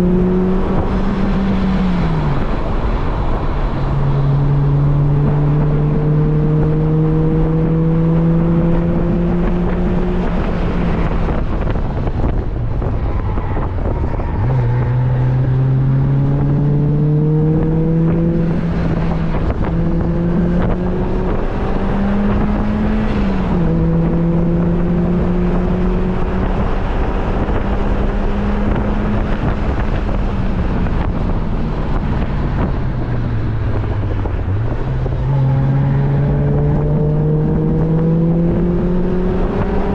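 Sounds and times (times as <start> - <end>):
car engine revving: 0.0 - 39.9
wind rush: 0.0 - 39.9.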